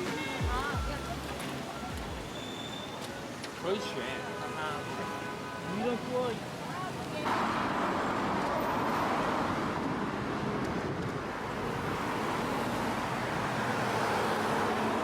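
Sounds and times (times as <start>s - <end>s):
city street traffic noise: 0.0s - 15.0s.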